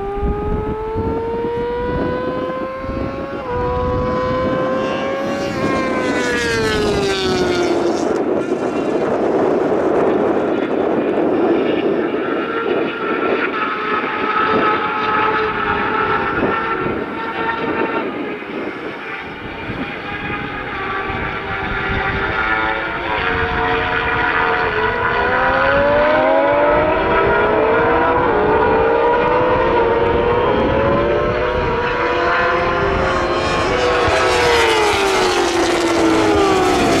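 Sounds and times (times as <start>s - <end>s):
motorcycle engines at high revs: 0.0s - 37.0s
motorcycle passing at speed: 0.0s - 37.0s.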